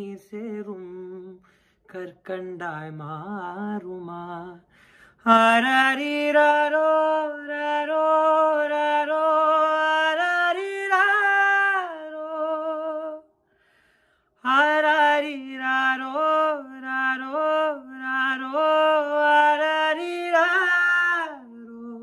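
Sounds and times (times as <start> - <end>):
man singing wordlessly: 0.0 - 13.3, 14.4 - 22.0.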